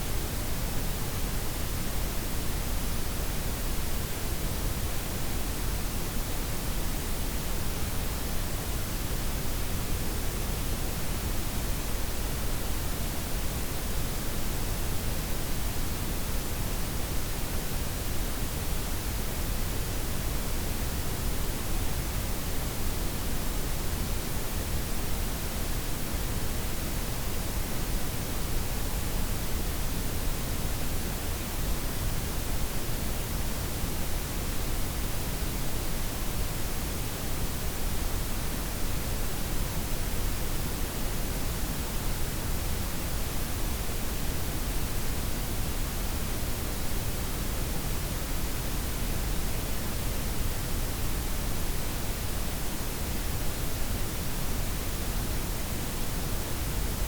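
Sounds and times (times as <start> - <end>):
synthetic noise hiss with low rumble: 0.0 - 57.0.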